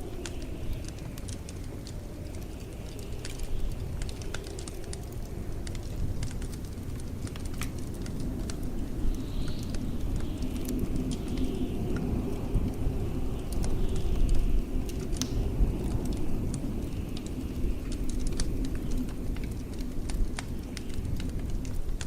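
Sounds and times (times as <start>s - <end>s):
blizzard wind with whistles: 0.0s - 22.0s
wood fire crackling and popping: 0.0s - 22.0s.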